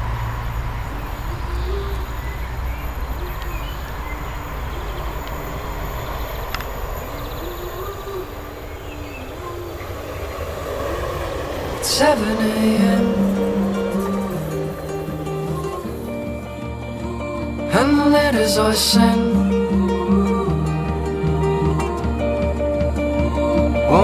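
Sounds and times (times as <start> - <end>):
low rumble of rail traffic: 0.0 - 24.0.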